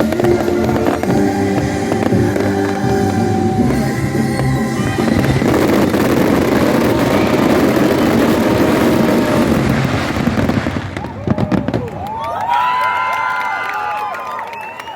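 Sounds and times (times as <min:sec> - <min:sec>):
fireworks bangs and crackling: 0:00.0 - 0:12.9
crowd cheering: 0:00.0 - 0:14.9.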